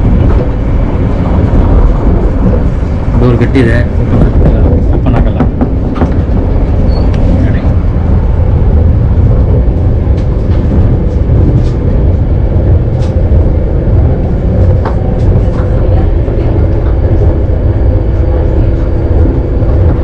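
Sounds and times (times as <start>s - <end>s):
train rumbling at speed: 0.0s - 20.0s.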